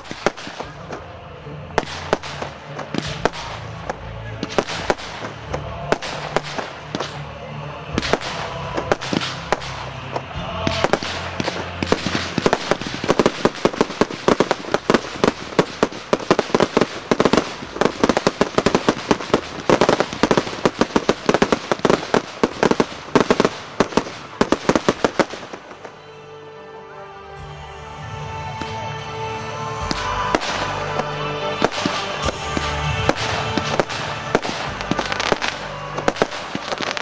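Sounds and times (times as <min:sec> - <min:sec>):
fireworks bangs: 0:00.0 - 0:26.1, 0:29.7 - 0:37.0.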